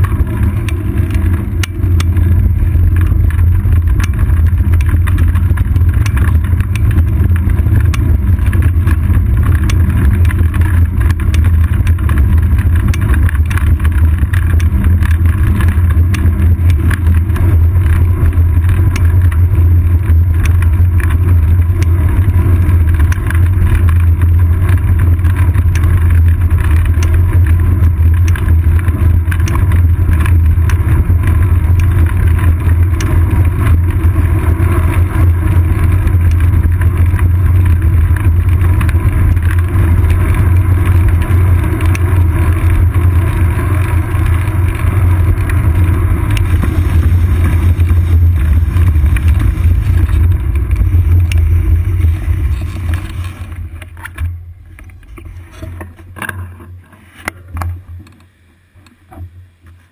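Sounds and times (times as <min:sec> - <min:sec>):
wind rumble: 0:00.0 - 0:56.3
road vibration: 0:00.0 - 0:59.9.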